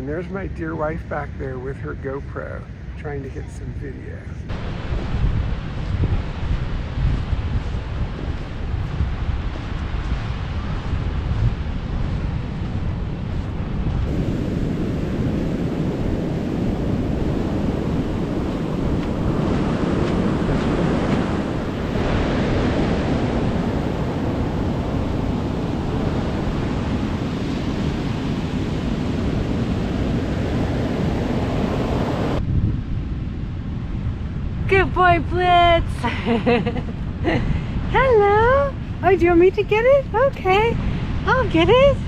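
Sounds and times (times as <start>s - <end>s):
wind buffeting microphone: 0.0s - 42.0s
ocean surf washing on beach: 3.4s - 42.0s.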